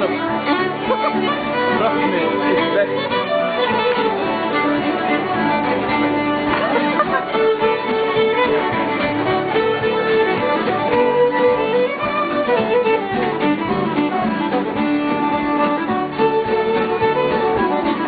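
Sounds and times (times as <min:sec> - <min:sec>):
fiddle playing folk tune: 0:00.0 - 0:18.0
guitar accompaniment: 0:00.0 - 0:18.0.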